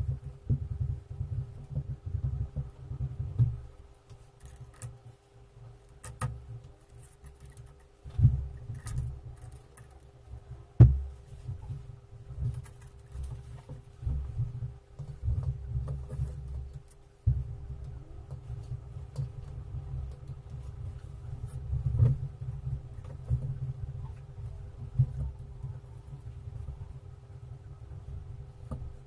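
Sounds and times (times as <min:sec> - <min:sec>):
faint steady hum: 0:00.0 - 0:29.0
small clicks and rustles: 0:00.0 - 0:29.0.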